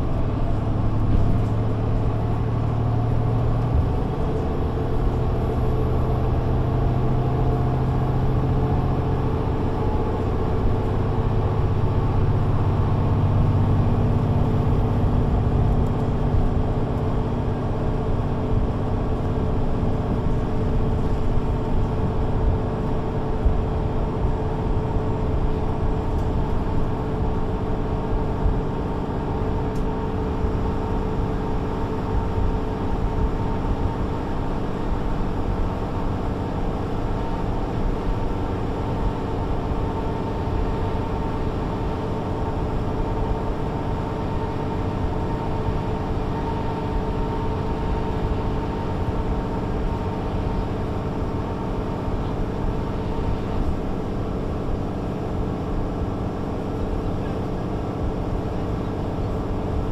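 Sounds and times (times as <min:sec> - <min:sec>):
bus diesel engine: 0:00.0 - 0:59.9
road noise: 0:00.0 - 0:59.9.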